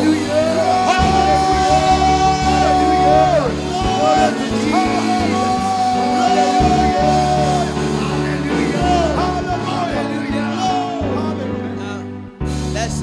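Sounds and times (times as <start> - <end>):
church praise band playing: 0.0 - 13.0
voices singing and calling out: 0.0 - 13.0.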